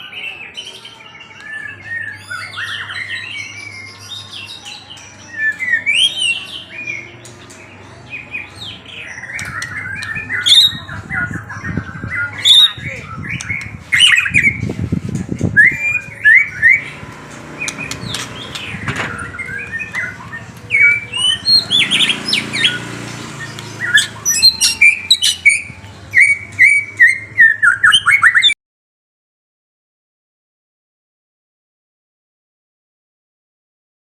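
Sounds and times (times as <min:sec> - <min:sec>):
songbird chirping: 0:00.0 - 0:28.6.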